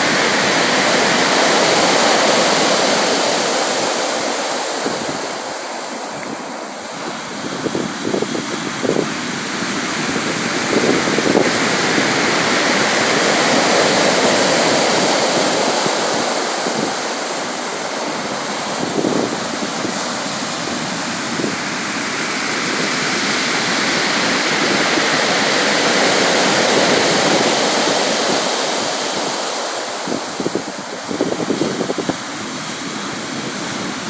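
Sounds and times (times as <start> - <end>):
surf rushing: 0.0 - 34.0.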